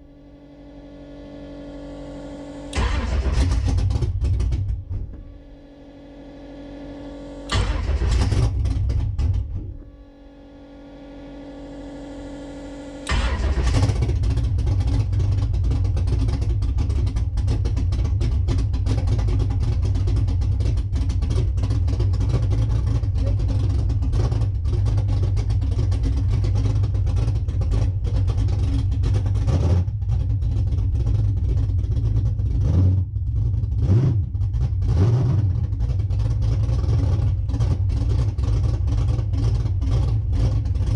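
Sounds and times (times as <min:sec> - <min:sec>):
car engine starting and running: 0:00.0 - 0:40.9
engine revving: 0:00.0 - 0:40.9.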